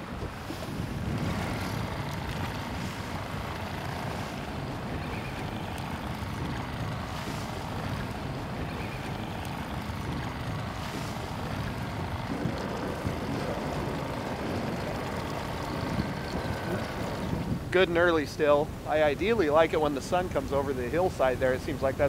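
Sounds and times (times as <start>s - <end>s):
choppy water: 0.0s - 22.0s
low even rumble: 0.0s - 22.0s
steady wind: 0.0s - 22.0s.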